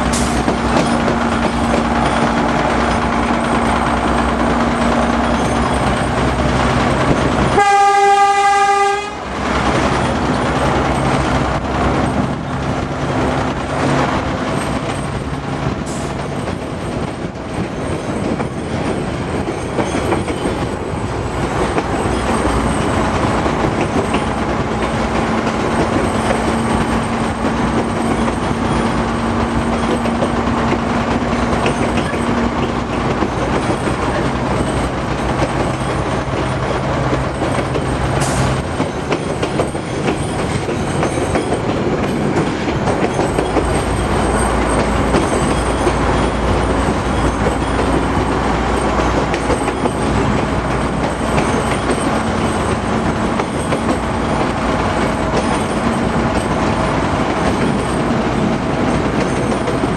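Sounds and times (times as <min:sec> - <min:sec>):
train rumble and wheel noise: 0:00.0 - 0:59.9.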